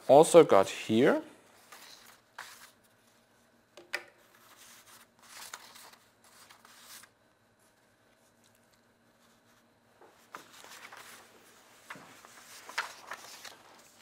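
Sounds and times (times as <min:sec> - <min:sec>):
paper sheets rustling: 0:01.6 - 0:03.3, 0:04.2 - 0:14.0.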